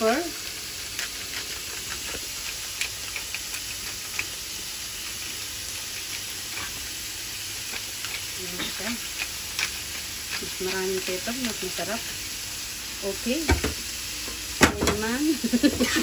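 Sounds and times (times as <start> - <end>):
meat and onion sizzling in a frying pan: 0.0 - 16.0.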